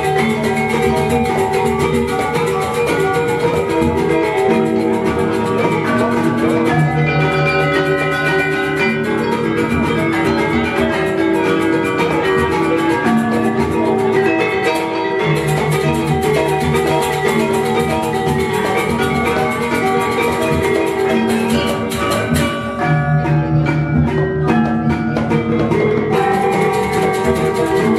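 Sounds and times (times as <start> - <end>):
metallophones struck with mallets: 0.0 - 27.9.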